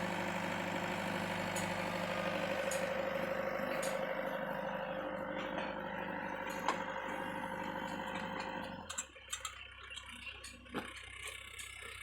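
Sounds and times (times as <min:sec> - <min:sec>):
backhoe engine running: 0:00.0 - 0:12.0.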